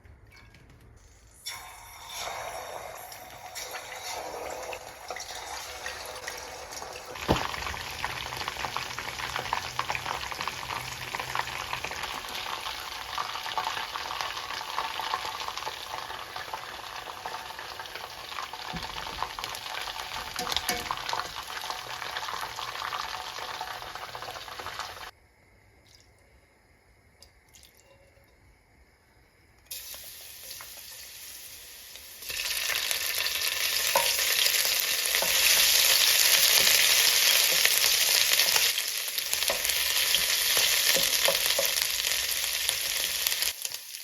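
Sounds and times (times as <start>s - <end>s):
food sizzling in hot oil: 1.4s - 25.1s, 29.7s - 44.0s.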